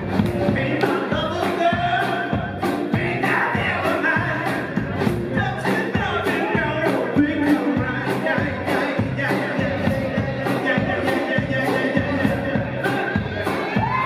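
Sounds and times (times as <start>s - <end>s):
rock band playing: 0.0s - 14.0s
steady drum beat: 0.0s - 14.0s
man singing lead vocal: 0.4s - 13.7s.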